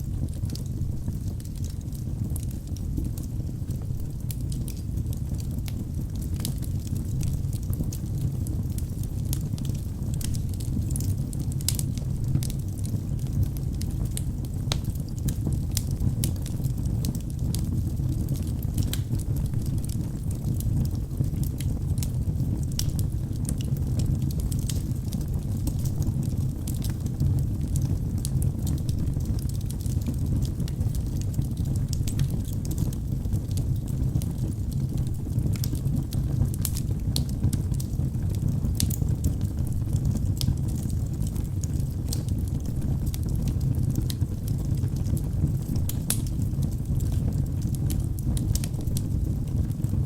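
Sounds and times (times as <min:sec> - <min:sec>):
crackles and pops of burning logs: 0:00.0 - 0:50.0
fire flames rumbling: 0:00.0 - 0:50.0.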